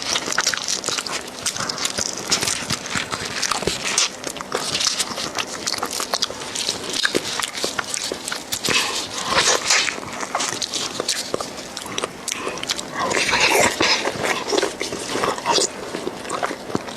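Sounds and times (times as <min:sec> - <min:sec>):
wet sucking and chewing: 0:00.0 - 0:16.9
mouth clicks and smacks: 0:00.2 - 0:16.9.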